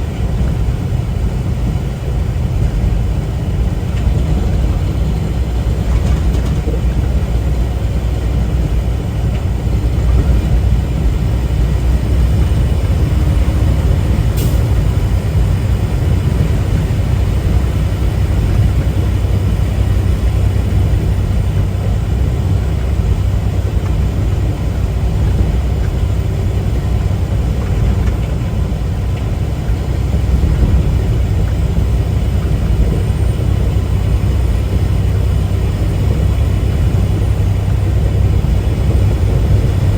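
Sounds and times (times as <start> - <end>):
diesel engine drone: 0.0 - 39.9
road noise: 0.0 - 39.9.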